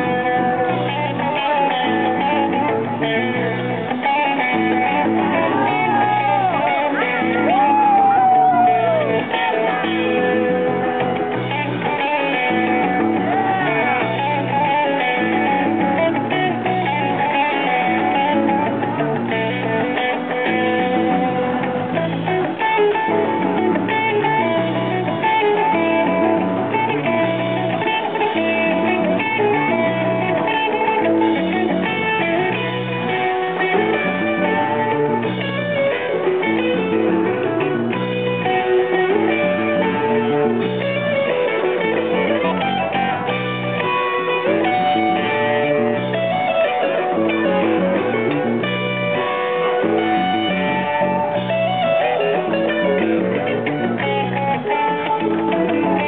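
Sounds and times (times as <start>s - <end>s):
electric guitar playing: 0.0s - 56.0s
live rock band: 0.0s - 56.0s.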